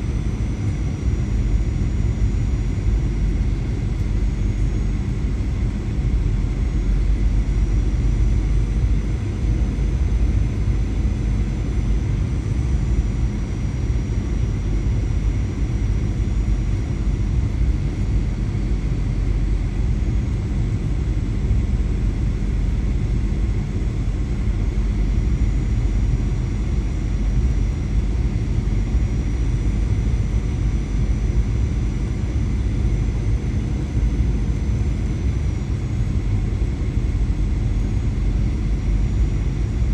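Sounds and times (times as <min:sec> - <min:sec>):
airplane cabin engine rumble: 0:00.0 - 0:39.9
faint steady whines: 0:00.0 - 0:39.9.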